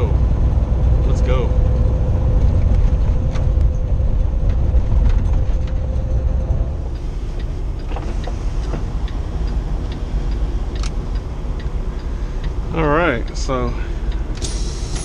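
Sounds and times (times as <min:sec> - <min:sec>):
diesel truck engine drone: 0:00.0 - 0:15.0
road noise: 0:00.0 - 0:15.0.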